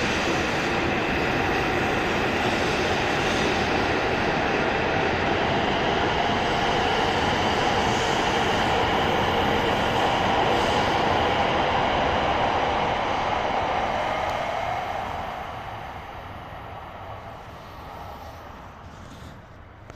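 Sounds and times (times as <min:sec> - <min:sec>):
train running noise: 0:00.0 - 0:19.9.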